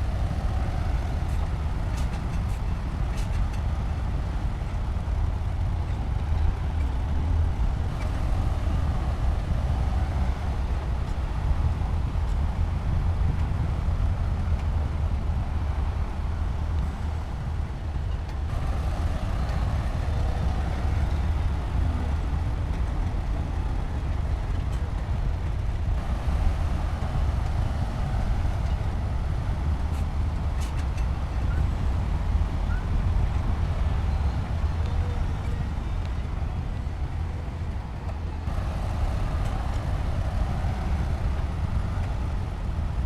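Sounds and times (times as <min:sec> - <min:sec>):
diesel engine rumbling under load: 0:00.0 - 0:43.0.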